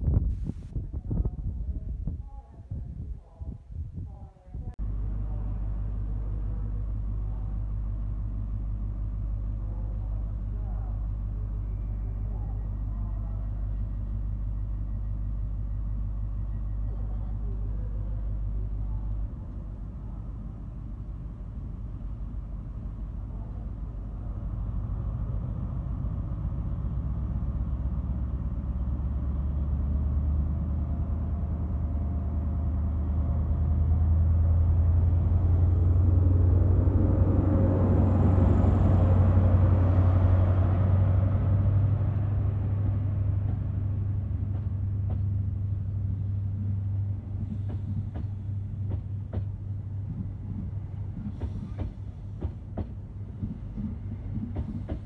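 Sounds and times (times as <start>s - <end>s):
diesel engine rumbling: 4.6s - 55.0s.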